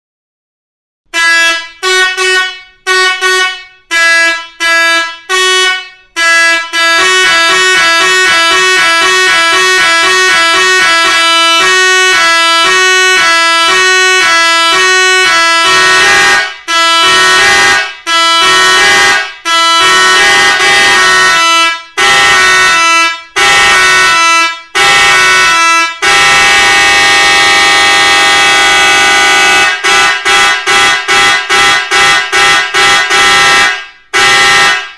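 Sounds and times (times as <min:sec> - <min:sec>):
electronic air horn melody: 0:01.1 - 0:34.9.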